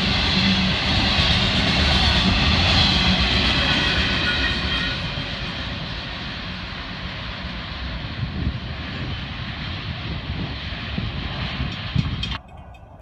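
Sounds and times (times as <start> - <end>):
freight train rumble: 0.0 - 13.0.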